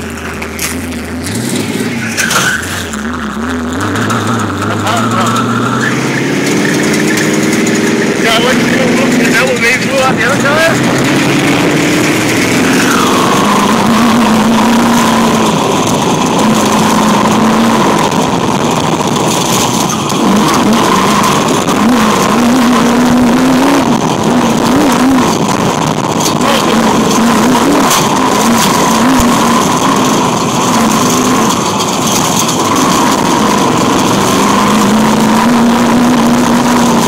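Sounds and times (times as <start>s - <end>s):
dune buggy engine revving: 0.0s - 37.0s.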